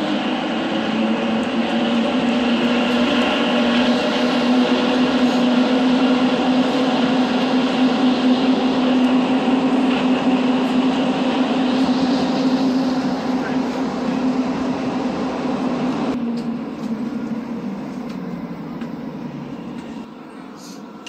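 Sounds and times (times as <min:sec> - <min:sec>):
metro train running: 0:00.0 - 0:21.0.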